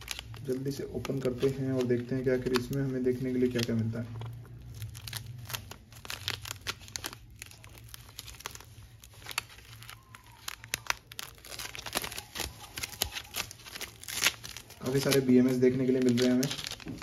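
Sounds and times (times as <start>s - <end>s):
plastic wrap crinkling: 0.0s - 17.0s
plastic wrap tearing snaps: 0.0s - 17.0s.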